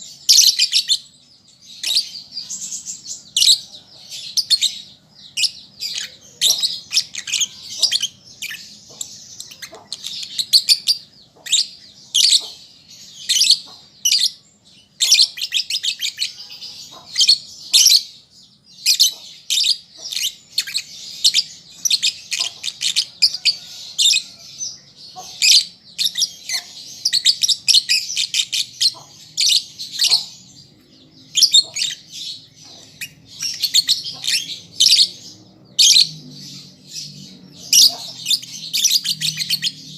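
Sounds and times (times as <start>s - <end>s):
bird twittering: 0.0s - 18.2s, 18.8s - 39.9s.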